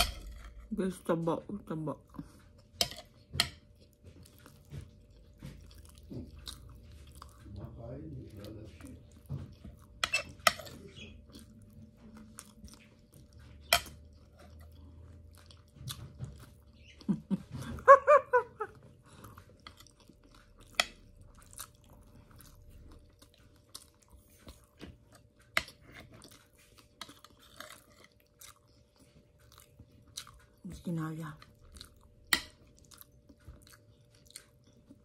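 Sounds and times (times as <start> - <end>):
person chewing: 2.1 - 35.0.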